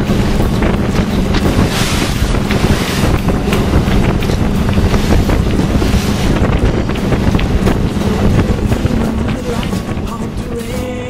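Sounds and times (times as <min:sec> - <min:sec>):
sea water rushing along hull: 0:00.0 - 0:11.0
wind buffeting microphone: 0:00.0 - 0:11.0.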